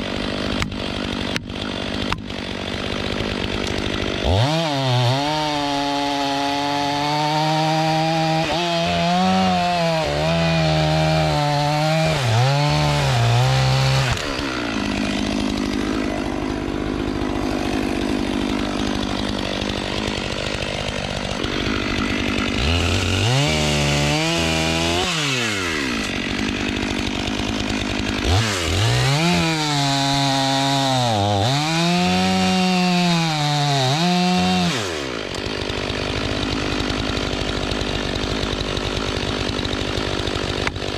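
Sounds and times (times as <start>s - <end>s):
chainsaw cutting logs: 0.0s - 40.9s.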